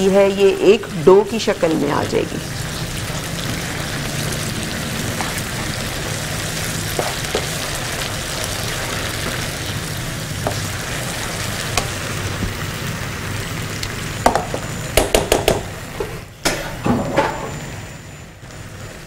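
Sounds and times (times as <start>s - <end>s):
mixture sizzling in frying pan: 0.0s - 16.3s.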